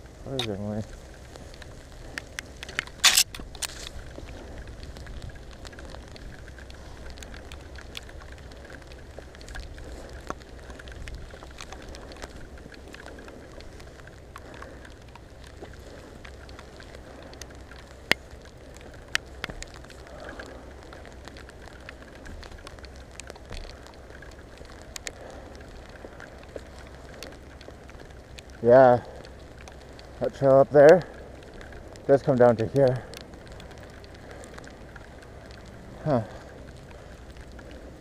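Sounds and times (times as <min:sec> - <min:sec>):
low rumble: 0:00.0 - 0:38.0
rain drops tapping: 0:00.0 - 0:38.0.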